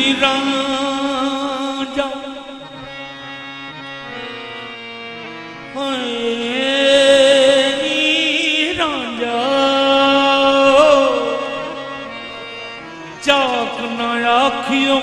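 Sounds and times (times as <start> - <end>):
male voice holding wavering notes: 0.0 - 3.3, 5.7 - 15.0
harmonium: 0.0 - 15.0.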